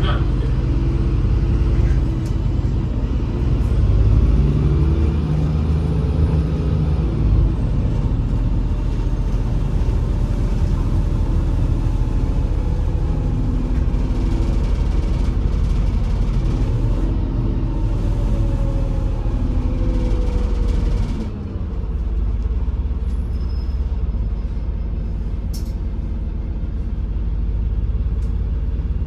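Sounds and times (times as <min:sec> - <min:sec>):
bus engine running: 0:00.0 - 0:29.0
road rumble: 0:00.0 - 0:29.0.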